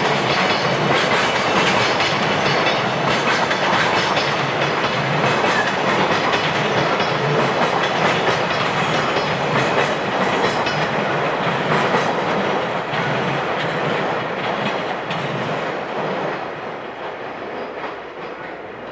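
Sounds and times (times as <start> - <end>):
wheels clicking over rail joints: 0.0 - 16.4
freight train rolling past: 0.0 - 18.9.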